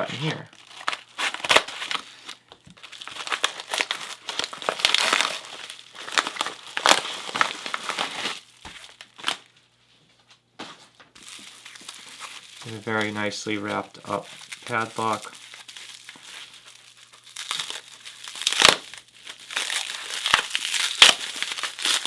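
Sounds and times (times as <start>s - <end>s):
plastic packaging crinkling: 0.2s - 9.5s, 11.2s - 22.0s.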